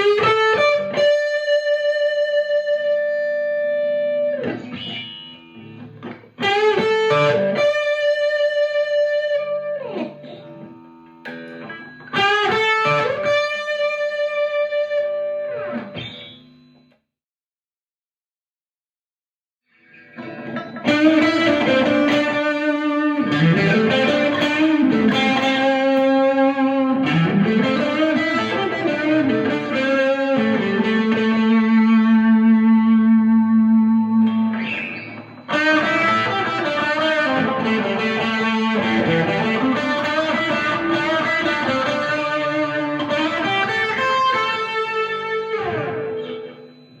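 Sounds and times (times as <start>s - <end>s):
electric guitar lead line: 0.0s - 16.8s, 19.7s - 47.0s.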